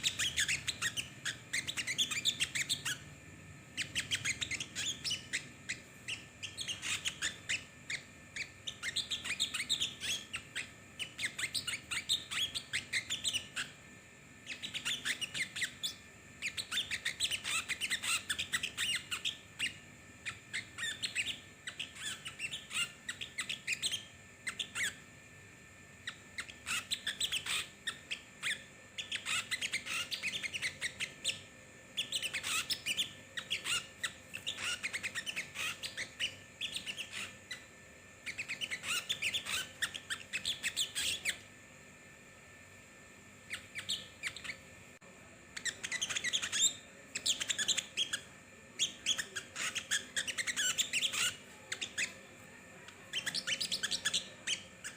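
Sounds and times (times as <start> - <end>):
songbird chattering song: 0.0 - 3.0, 3.8 - 13.7, 14.4 - 25.0, 26.0 - 41.4, 43.5 - 44.6, 45.6 - 52.3, 52.9 - 54.9.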